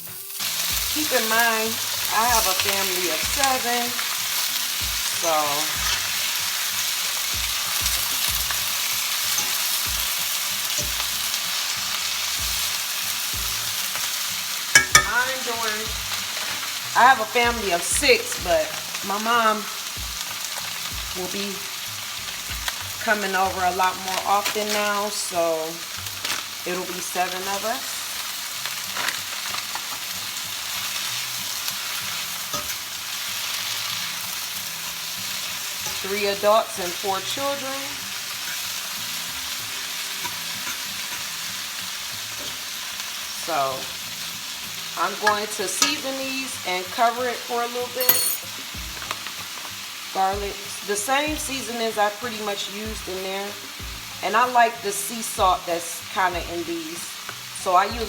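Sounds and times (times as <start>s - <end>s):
vegetables sizzling in a pan: 0.0s - 58.0s.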